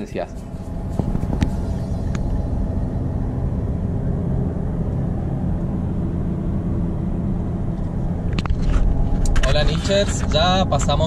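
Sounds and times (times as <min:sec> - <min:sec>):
car driving on highway: 0:00.0 - 0:11.0.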